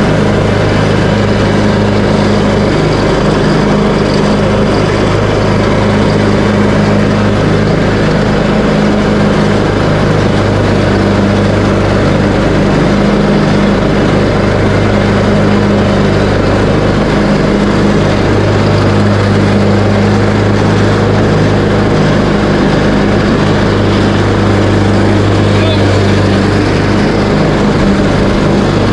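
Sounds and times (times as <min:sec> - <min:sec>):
riding mower engine cutting grass: 0:00.0 - 0:28.9.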